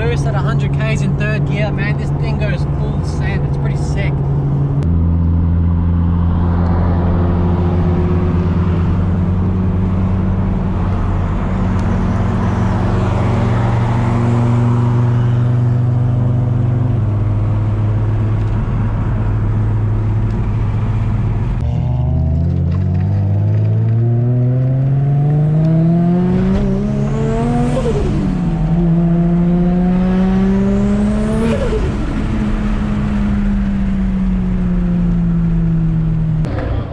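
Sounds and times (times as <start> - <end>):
car engine cruising: 0.0 - 36.9.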